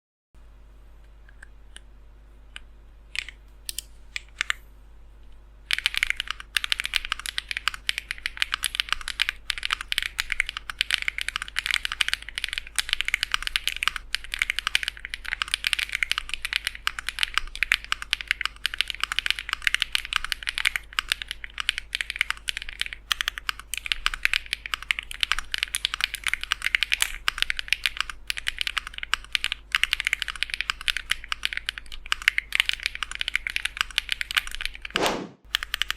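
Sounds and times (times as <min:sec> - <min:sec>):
mechanical keyboard typing: 0:05.6 - 0:35.9.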